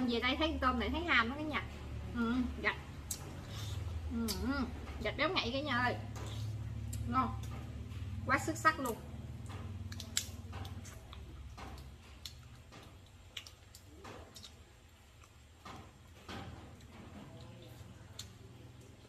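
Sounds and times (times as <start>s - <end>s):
steady low hum: 0.0s - 19.0s
soft wet chewing: 2.7s - 5.2s, 6.0s - 19.0s.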